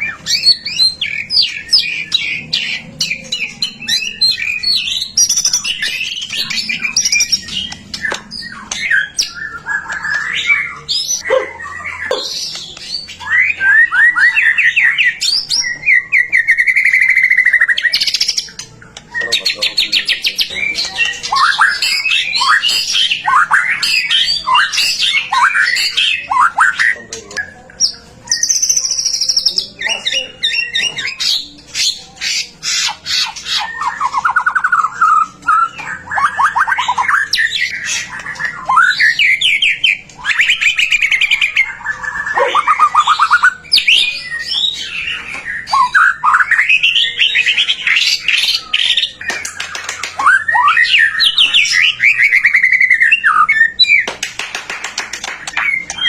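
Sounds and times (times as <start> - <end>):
songbird singing whistles and trills: 0.0 - 54.2.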